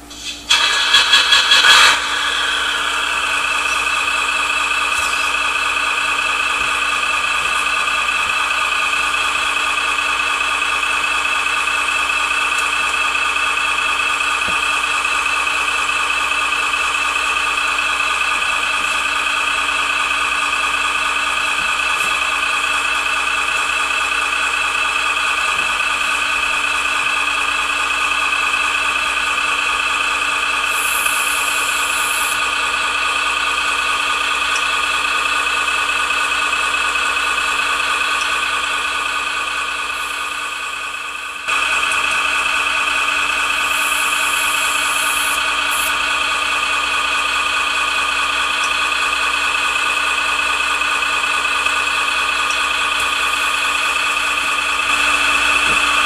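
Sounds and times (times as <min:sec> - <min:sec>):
simulated diesel engine idling: 0:00.0 - 0:56.0.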